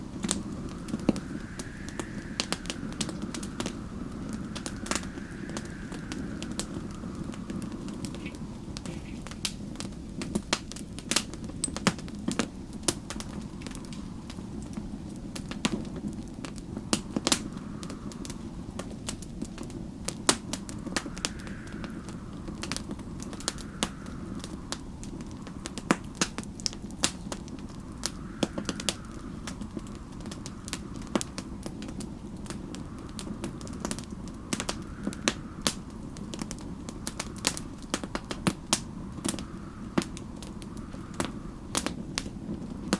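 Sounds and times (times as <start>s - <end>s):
faint snowstorm wind: 0.0s - 42.9s
wood fire crackling: 0.0s - 42.9s.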